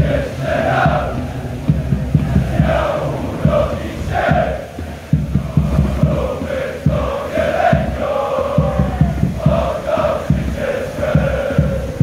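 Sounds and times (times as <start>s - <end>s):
crowd chanting: 0.0s - 12.0s
rapid low thumps: 0.0s - 12.0s.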